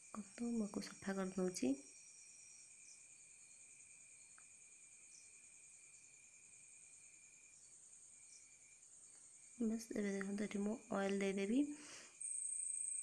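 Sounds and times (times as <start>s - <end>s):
crickets chirring: 0.0s - 13.0s
faint steady whine: 0.0s - 13.0s.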